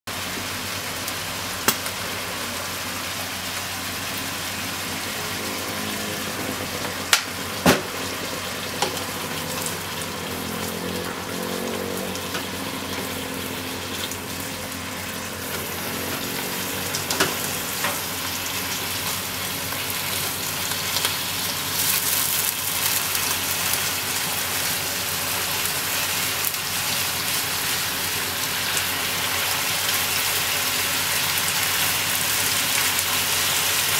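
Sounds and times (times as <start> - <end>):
food sizzling in a frying pan: 0.1 - 33.9.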